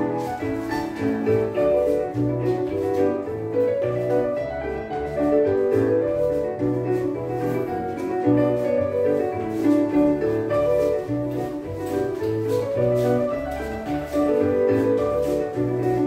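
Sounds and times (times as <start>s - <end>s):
country dance jig music: 0.0s - 16.0s.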